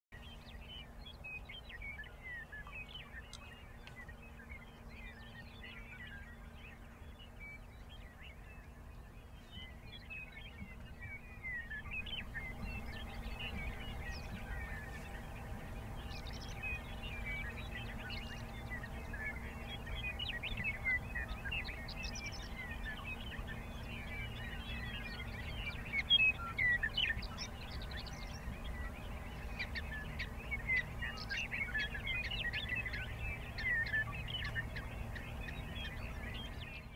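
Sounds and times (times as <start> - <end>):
high chirping calls: 0.2 - 36.9
steady low hum: 0.2 - 36.9.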